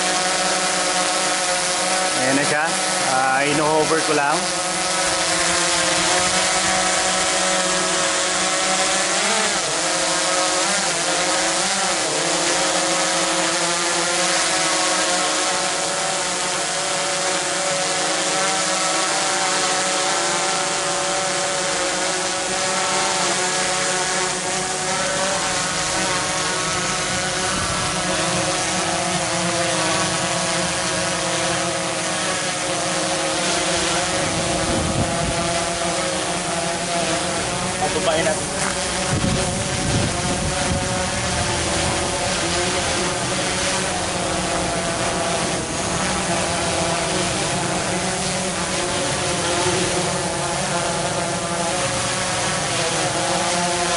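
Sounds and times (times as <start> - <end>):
drone propellers buzzing whine: 0.0 - 53.9.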